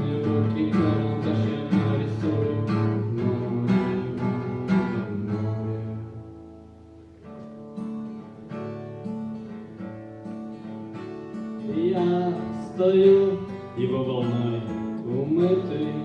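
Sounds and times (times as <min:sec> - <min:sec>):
acoustic guitar picked notes: 0:00.0 - 0:16.0
acoustic guitar strummed chords: 0:00.0 - 0:16.0.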